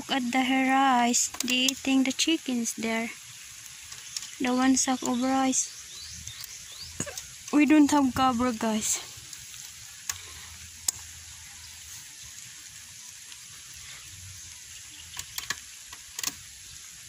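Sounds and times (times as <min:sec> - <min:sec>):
light rain hissing: 0:00.0 - 0:17.0.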